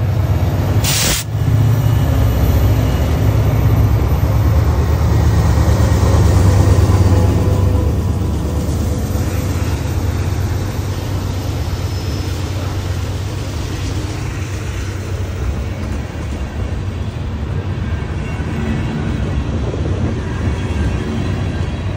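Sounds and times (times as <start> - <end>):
diesel locomotive engine rumble: 0.0 - 21.9
train wheels rolling on rails: 0.0 - 21.9.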